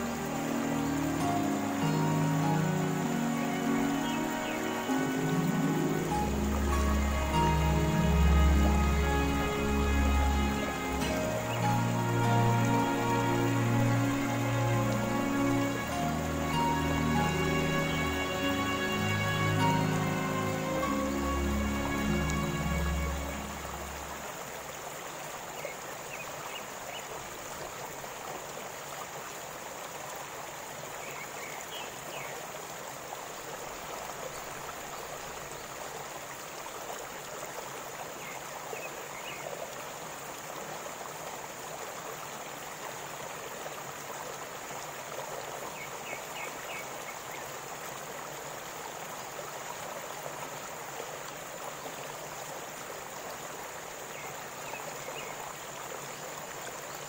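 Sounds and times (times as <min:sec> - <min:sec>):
waterfall and river rushing: 0:00.0 - 0:57.0.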